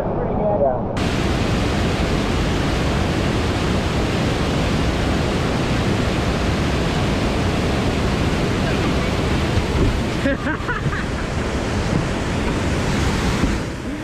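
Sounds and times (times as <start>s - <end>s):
water rushing over rocks: 1.0s - 14.0s.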